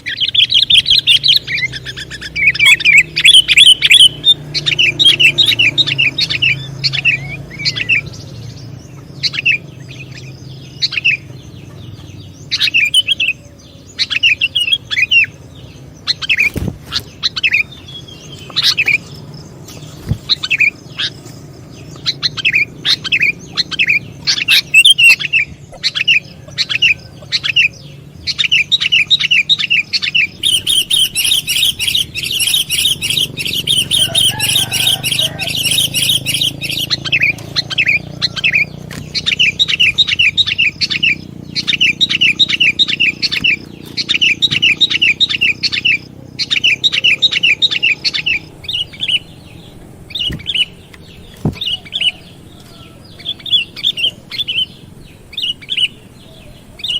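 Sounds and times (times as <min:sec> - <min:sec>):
bird chirping rapidly: 0:00.0 - 0:56.9.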